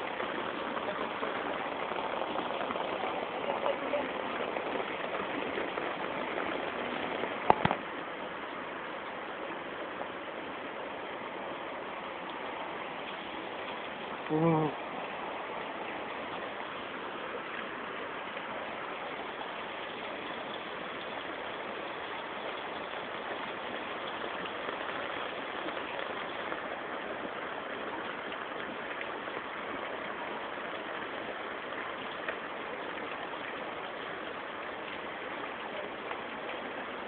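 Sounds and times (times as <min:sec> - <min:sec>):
heavy rain on flooded street: 0:00.0 - 0:37.0.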